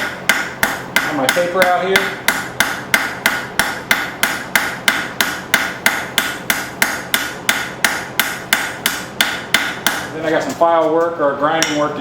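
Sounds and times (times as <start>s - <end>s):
hammer striking steel on anvil: 0.0s - 10.6s, 11.5s - 11.9s.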